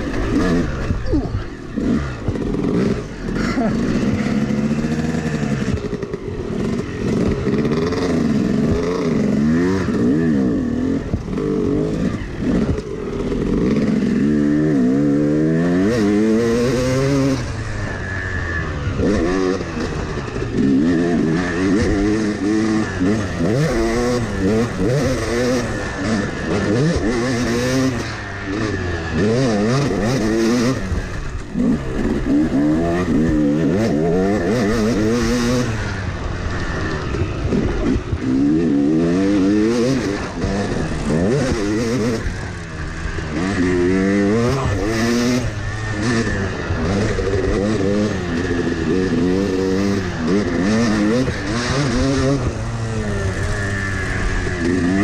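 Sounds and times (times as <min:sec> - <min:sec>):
two-stroke dirt bike revving: 0:00.0 - 0:55.0.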